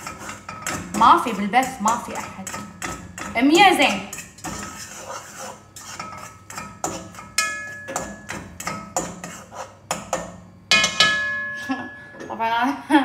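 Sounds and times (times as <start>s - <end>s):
spoon scraping a cooking pot: 0.0s - 11.1s.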